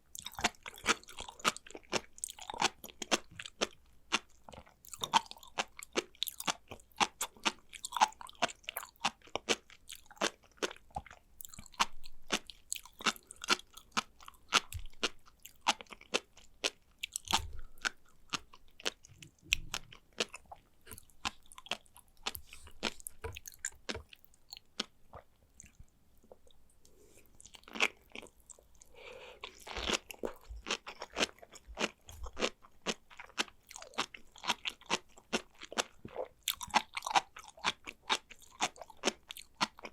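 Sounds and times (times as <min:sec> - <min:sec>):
crisp chewing crunches: 0:00.2 - 0:26.6, 0:27.4 - 0:39.9.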